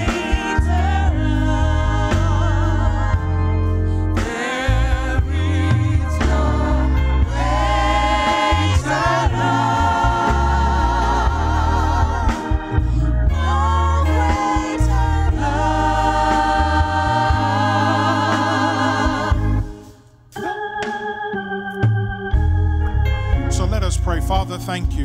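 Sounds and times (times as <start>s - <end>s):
deep bass line: 0.0s - 19.8s, 21.8s - 25.0s
person singing with vibrato: 0.0s - 20.6s.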